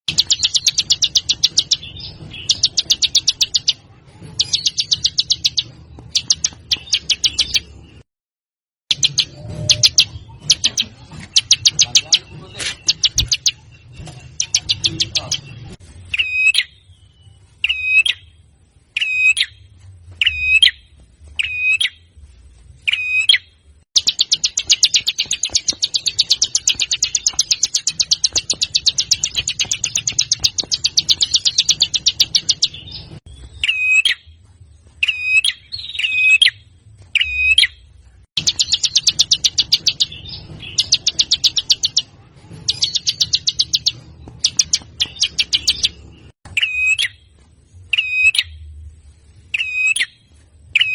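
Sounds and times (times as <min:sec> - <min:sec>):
songbird calls and trills: 0:00.1 - 0:08.0, 0:08.9 - 0:20.8, 0:22.9 - 0:34.3, 0:38.4 - 0:47.2, 0:47.8 - 0:48.6, 0:49.5 - 0:50.9.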